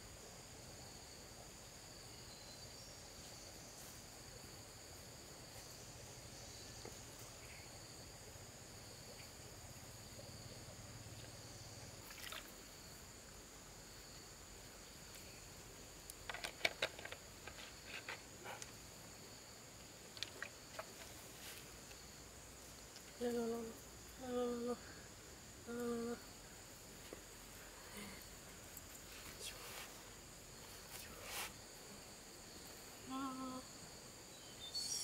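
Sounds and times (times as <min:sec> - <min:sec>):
insect chorus: 0:00.0 - 0:35.0.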